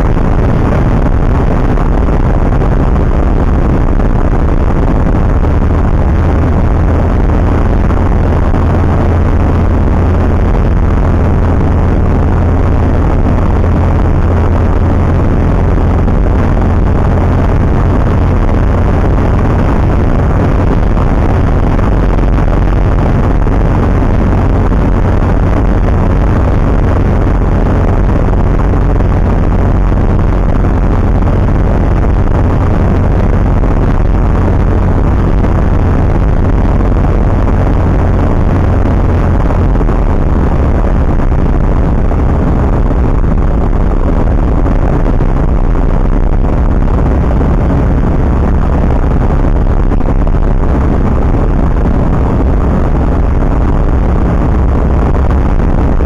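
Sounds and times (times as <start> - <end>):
rushing noise: 0.0 - 56.0.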